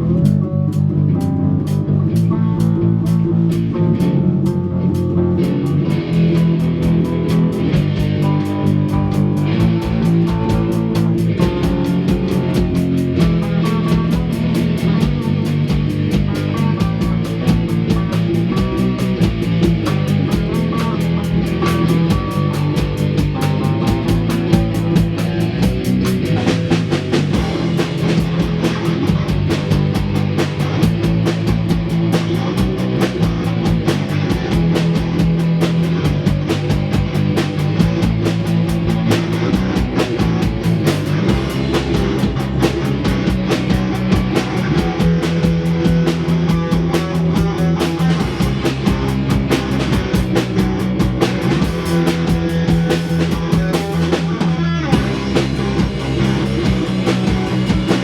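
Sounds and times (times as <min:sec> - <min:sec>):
drum kit: 0:00.0 - 0:58.0
guitar playing: 0:00.0 - 0:58.0.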